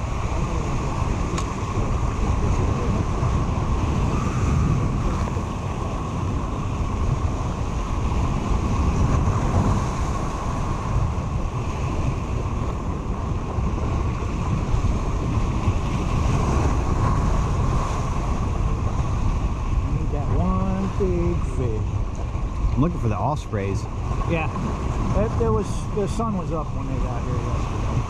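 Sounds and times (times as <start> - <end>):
ocean surf breaking over rocks: 0.0 - 28.0
wind buffeting microphone: 0.0 - 28.0.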